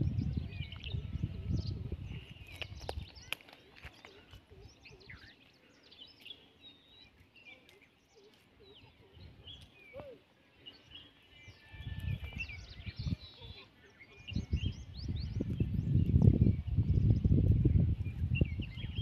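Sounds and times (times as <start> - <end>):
birds chirping and calling: 0.0 - 19.0
faint outdoor background noise: 0.0 - 19.0.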